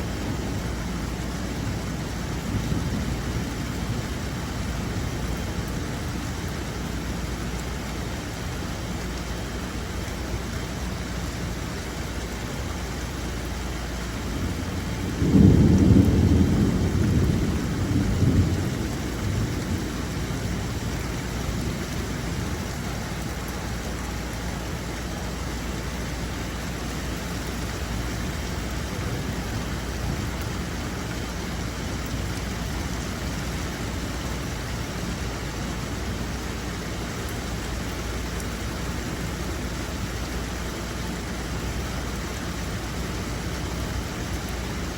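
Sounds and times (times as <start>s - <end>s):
thunder rumbling: 0.0s - 7.4s, 13.9s - 44.9s
steady rain: 0.0s - 44.9s.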